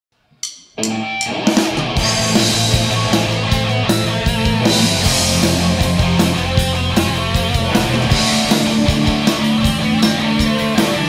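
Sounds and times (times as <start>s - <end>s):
rock band playing live: 0.8s - 11.0s.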